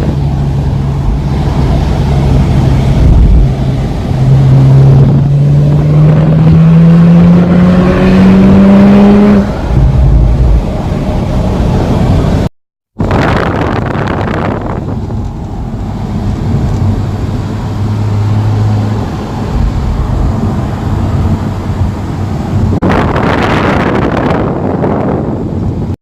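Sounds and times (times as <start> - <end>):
wind on microphone: 0.0 - 17.1, 19.0 - 26.0
car rushing by on the move: 0.0 - 25.5
car engine droning: 0.0 - 25.9.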